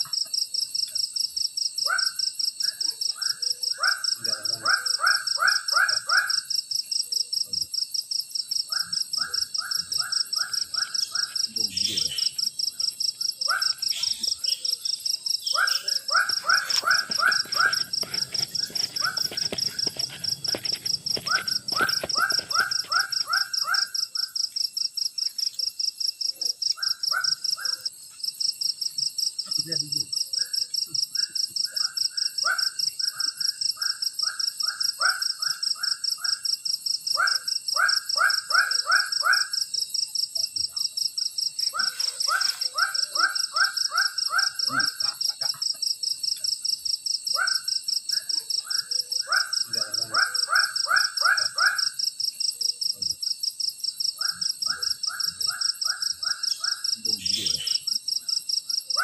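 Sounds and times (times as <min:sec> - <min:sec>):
high-pitched insect trill: 0:00.0 - 0:59.0
repeated animal calls: 0:00.0 - 0:59.0.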